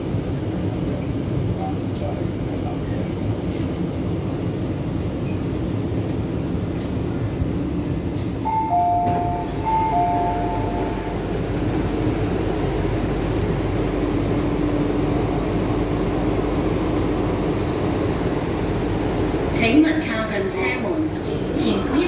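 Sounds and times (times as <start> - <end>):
train rumble: 0.0 - 22.0.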